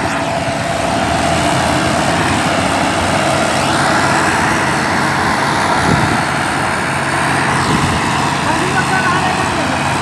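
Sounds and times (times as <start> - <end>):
tractor diesel engine straining: 0.0 - 10.0.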